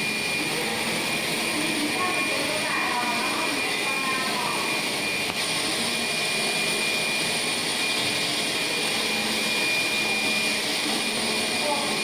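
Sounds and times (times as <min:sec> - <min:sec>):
thin high whine: 0:00.0 - 0:12.0.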